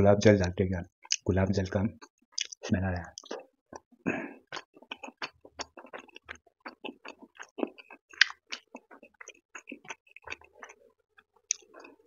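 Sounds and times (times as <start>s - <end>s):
wet chewing mouth clicks: 1.0s - 1.3s, 2.0s - 12.0s.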